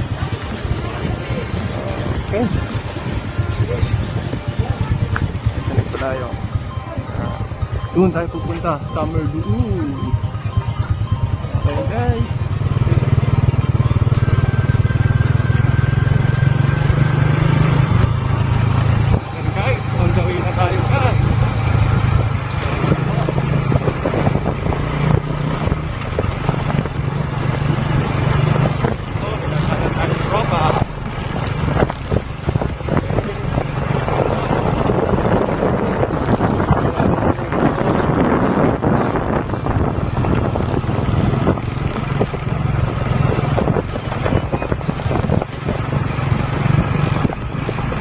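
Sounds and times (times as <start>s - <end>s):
noisy rush: 0.0s - 48.0s
road and wind noise: 0.0s - 48.0s
vehicle engine droning: 0.0s - 48.0s.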